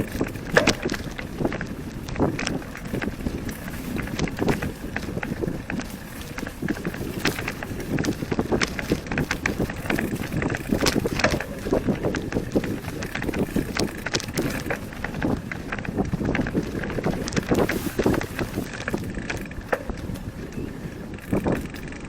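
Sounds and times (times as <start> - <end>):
clicks and rattles: 0.0 - 22.0
wind rumbling on microphone: 0.0 - 22.0.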